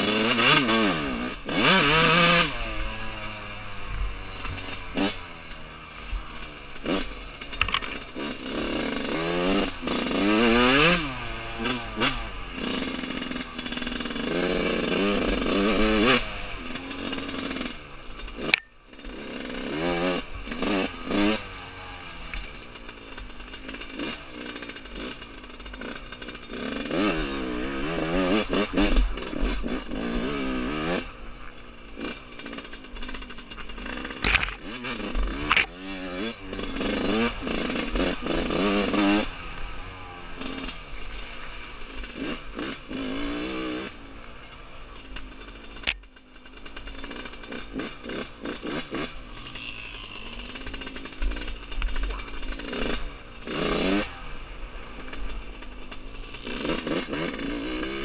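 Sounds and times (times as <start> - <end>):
two-stroke motorbike revving: 0.0 - 58.0.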